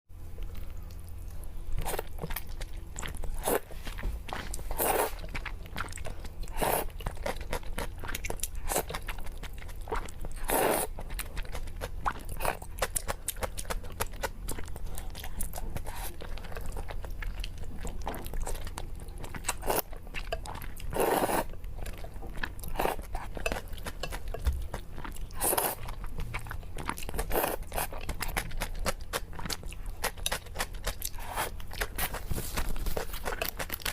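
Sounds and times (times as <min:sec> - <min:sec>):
person chewing noodles wetly: 0:00.3 - 0:33.9.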